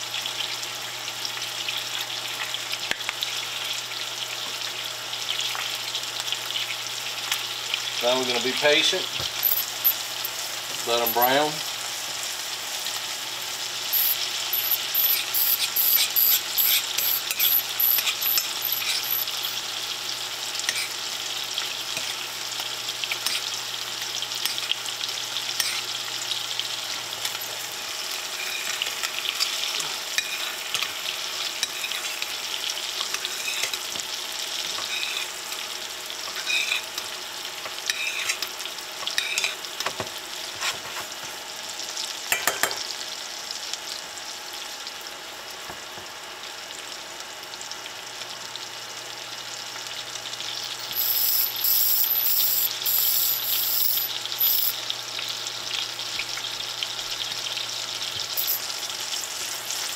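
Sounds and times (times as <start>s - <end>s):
scallops sizzling in a pan: 0.0s - 59.9s.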